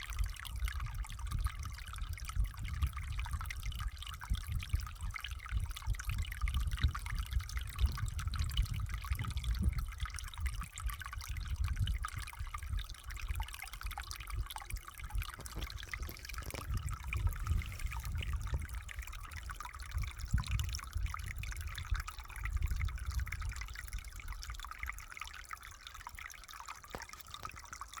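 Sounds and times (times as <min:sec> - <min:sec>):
water trickling and dripping: 0:00.0 - 0:28.0.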